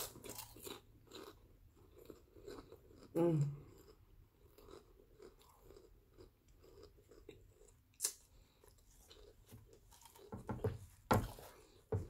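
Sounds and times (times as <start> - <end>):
chewing food with mouth closed: 0.0 - 11.9.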